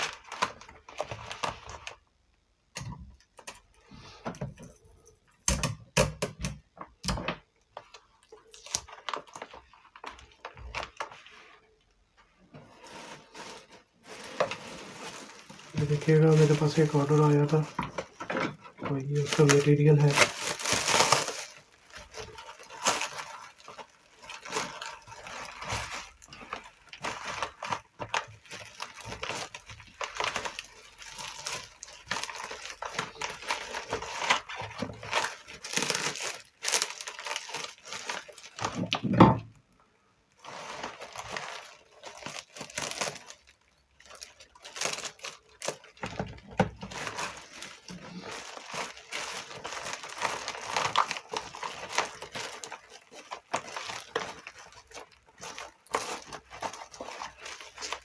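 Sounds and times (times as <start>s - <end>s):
cardboard packing rustling: 0.0s - 2.1s, 6.8s - 39.1s, 40.3s - 58.0s.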